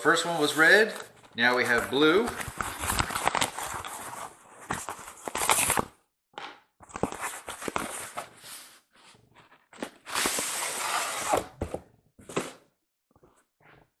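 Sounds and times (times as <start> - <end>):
packaging rustling and scraping: 0.2 - 5.9, 6.8 - 12.6.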